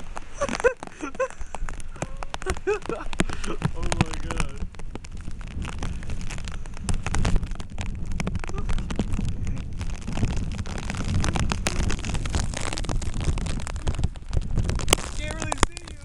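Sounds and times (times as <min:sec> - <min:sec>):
rain striking: 0:00.0 - 0:16.0
wind buffeting microphone: 0:00.0 - 0:16.0.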